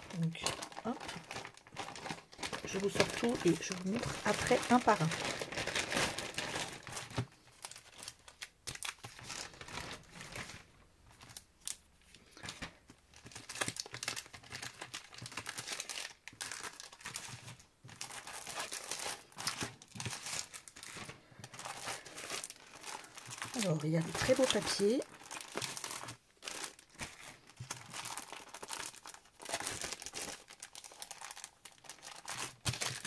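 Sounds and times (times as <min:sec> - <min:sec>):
plastic packaging crinkling: 0:00.0 - 0:33.0.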